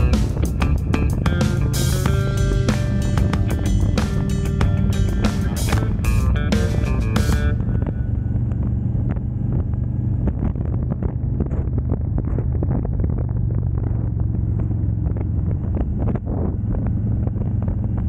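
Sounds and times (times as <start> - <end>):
motorcycle engine rumbling: 0.0 - 18.0
wind crackling on microphone: 0.0 - 18.0.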